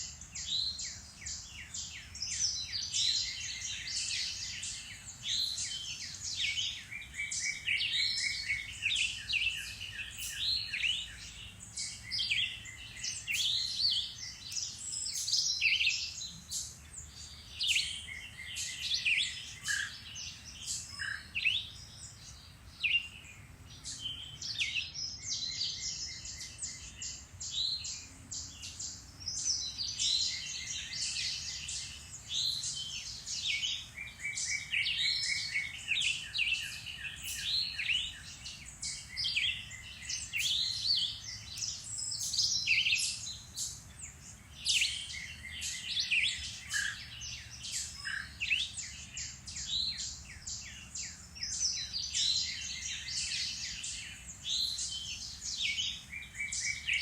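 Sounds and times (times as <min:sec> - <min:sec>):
songbirds chirping and whistling: 0:00.0 - 0:57.0.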